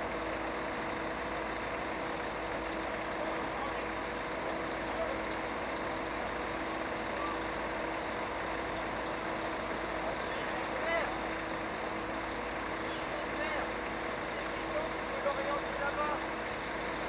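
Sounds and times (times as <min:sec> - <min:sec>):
crane diesel engine droning: 0:00.0 - 0:17.0.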